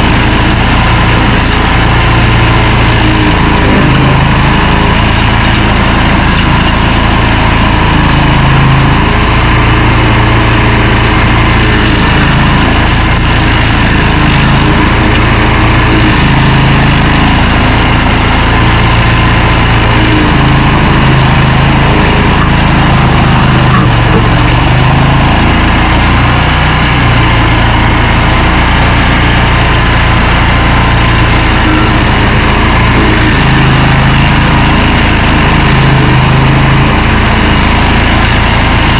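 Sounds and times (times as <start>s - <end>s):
cutter wheel grinding: 0.0s - 38.9s
stump grinder engine under load: 0.0s - 38.9s.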